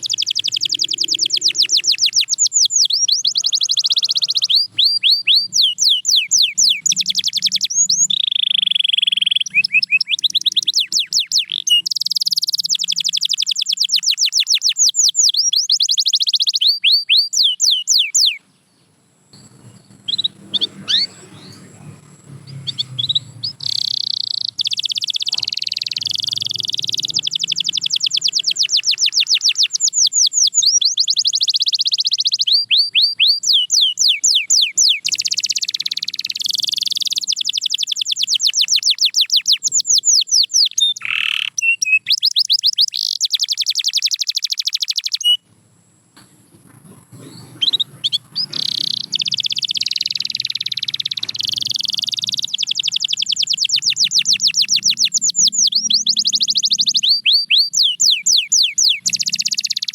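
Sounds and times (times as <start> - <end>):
canary singing trills: 0.0 - 45.4, 46.6 - 59.9.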